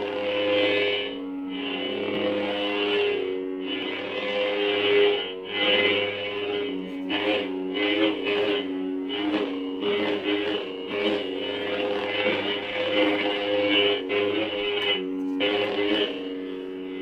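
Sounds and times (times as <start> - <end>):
lightsaber humming: 0.0 - 17.0.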